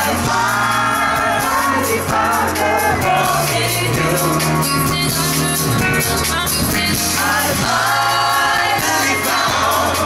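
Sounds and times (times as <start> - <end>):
band with keyboard and drums: 0.0 - 10.0
woman singing into microphone: 0.0 - 10.0.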